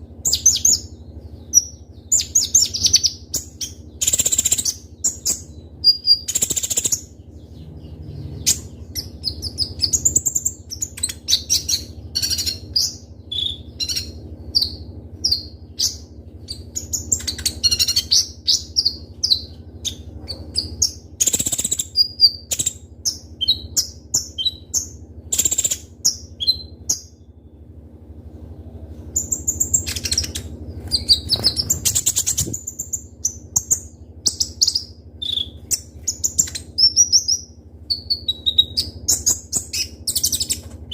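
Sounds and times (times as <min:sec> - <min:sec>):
sunbird chirping and trilling: 0:00.0 - 0:27.8, 0:28.4 - 0:40.9
faint steady hum: 0:00.0 - 0:40.9.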